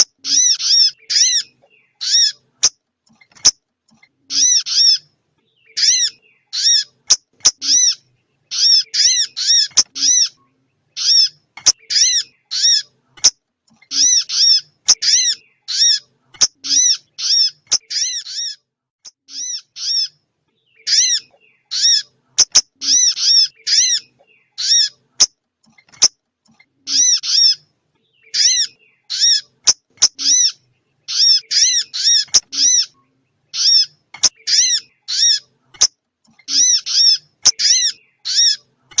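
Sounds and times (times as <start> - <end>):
high short bird chirps: 0.0 - 39.0.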